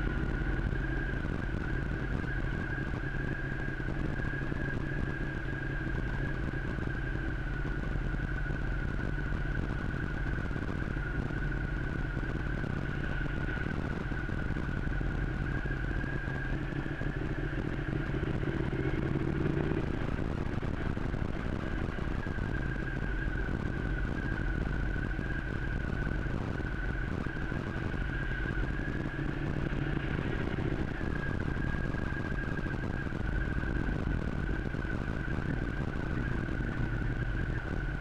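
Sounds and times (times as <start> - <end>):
motorcycle engine running: 0.0 - 38.0
steady high whine: 0.0 - 38.0.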